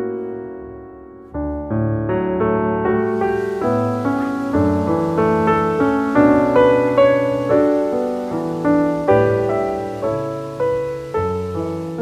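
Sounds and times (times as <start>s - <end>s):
piano notes and chords: 0.0s - 12.0s.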